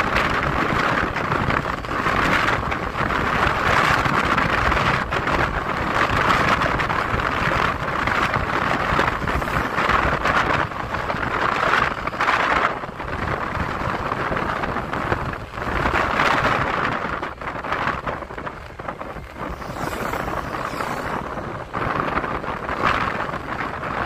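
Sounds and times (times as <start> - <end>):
motorcycle running: 0.0 - 24.0
road noise: 0.0 - 24.0
wind rushing over microphone: 0.0 - 24.0.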